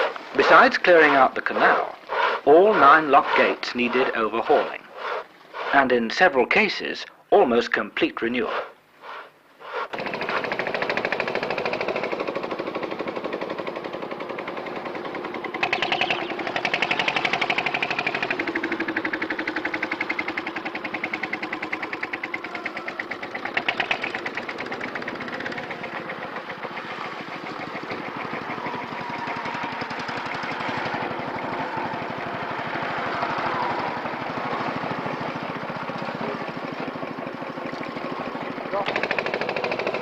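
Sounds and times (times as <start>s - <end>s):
engine machine knocking rhythmically: 0.0s - 5.3s, 9.9s - 40.0s.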